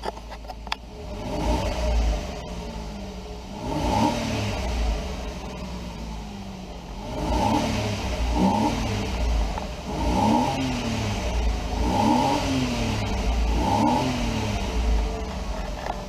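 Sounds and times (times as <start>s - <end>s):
car engine revving from idle: 0.6s - 16.0s.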